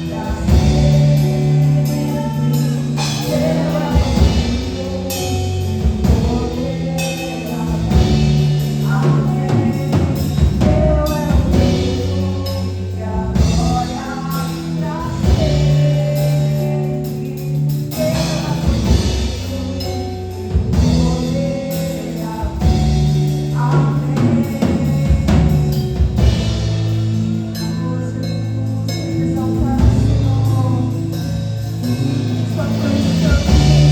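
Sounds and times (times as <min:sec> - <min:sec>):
band with drum kit: 0:00.0 - 0:33.9
gospel singing: 0:00.0 - 0:33.9.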